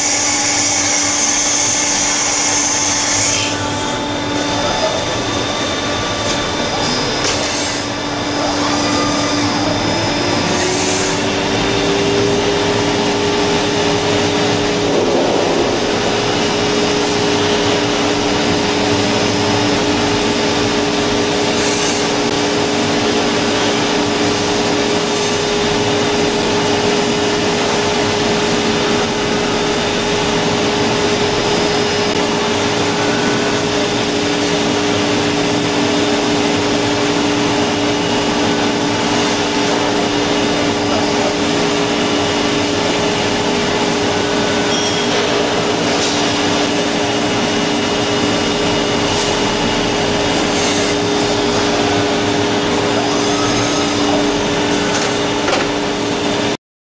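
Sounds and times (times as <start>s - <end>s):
milling machine cutting metal: 0.0s - 56.6s.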